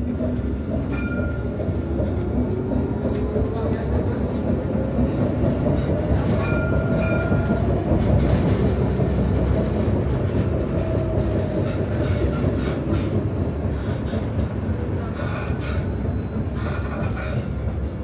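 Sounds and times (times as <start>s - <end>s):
tram wheels rumbling on rail: 0.0s - 18.0s.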